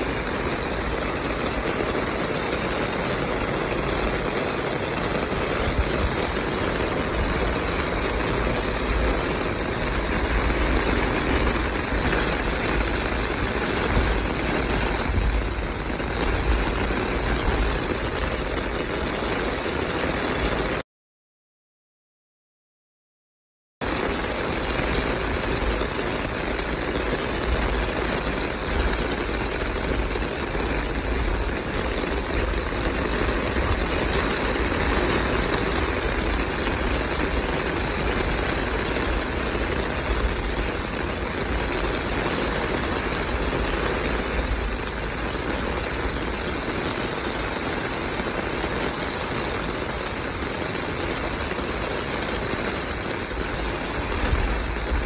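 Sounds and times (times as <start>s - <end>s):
heavy rain: 0.0s - 20.8s, 23.8s - 55.0s
water pouring onto concrete: 0.0s - 20.8s, 23.8s - 55.0s.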